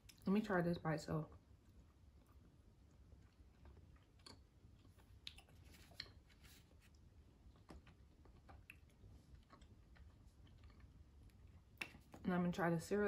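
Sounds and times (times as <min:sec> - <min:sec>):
quiet chewing and mouth sounds: 0:00.0 - 0:00.4, 0:01.2 - 0:12.3.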